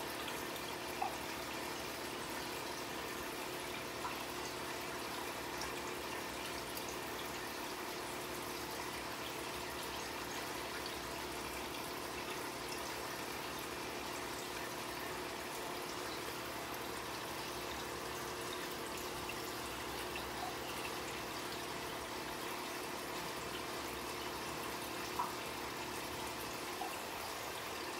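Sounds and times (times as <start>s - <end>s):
trickle of running water: 0.0s - 27.9s.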